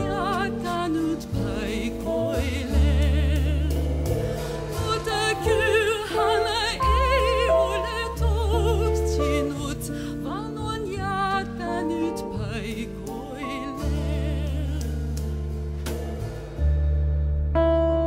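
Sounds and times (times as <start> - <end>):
woman singing with vibrato: 0.0 - 15.4
live band playing: 0.0 - 18.0
sustained low bass notes: 0.0 - 18.0.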